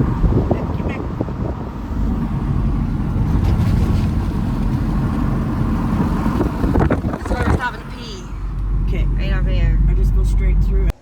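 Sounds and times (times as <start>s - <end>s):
wind noise: 0.0s - 10.9s
vehicle rumble: 0.0s - 11.0s.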